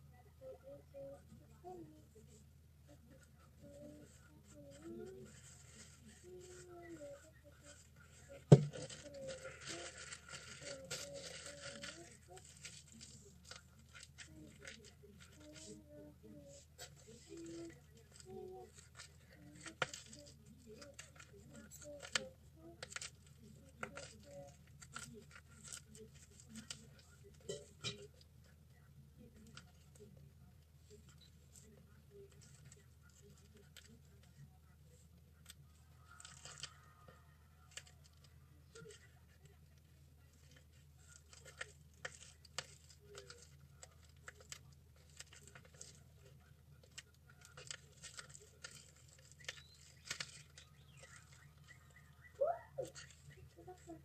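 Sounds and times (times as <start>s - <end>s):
fabric rustling and crinkling: 3.0s - 28.2s, 29.2s - 54.0s.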